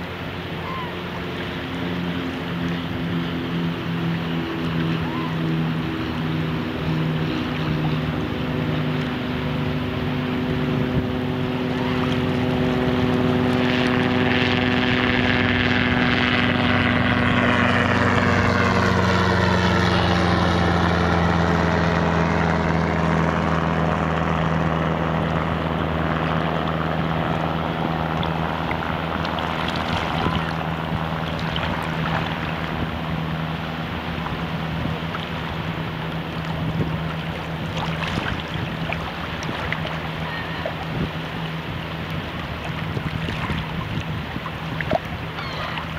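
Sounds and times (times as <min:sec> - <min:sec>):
engine passing by: 0:00.0 - 0:45.9
water noise: 0:00.0 - 0:45.9
wind: 0:00.0 - 0:45.9.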